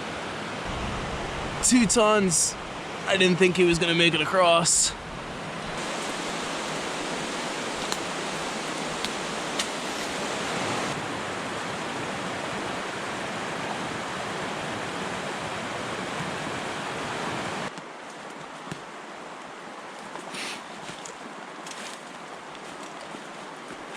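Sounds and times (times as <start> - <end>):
rushing river water: 0.0 - 23.9.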